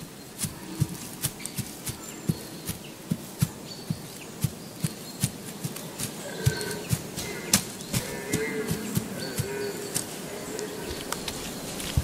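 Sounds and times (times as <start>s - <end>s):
faint bird chirps: 0.0s - 12.0s
hooves stepping on forest floor: 0.0s - 12.0s.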